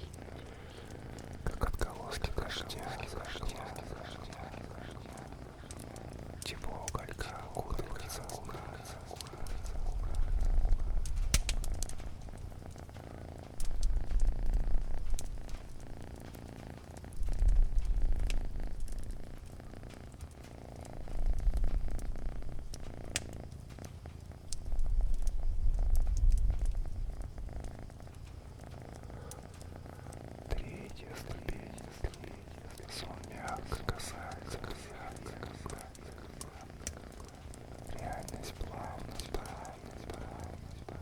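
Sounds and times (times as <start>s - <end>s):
cat purring: 0.0s - 41.0s
wood fire crackles: 0.0s - 41.0s.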